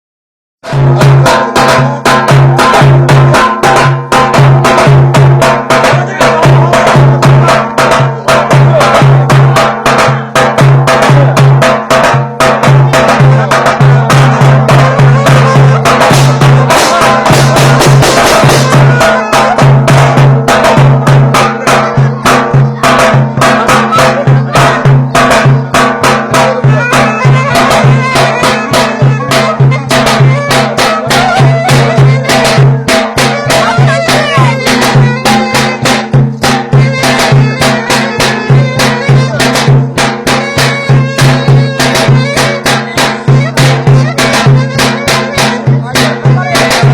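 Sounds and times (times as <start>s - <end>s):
fast drum beat: 0.6s - 46.9s
wind instrument melody: 0.6s - 46.9s.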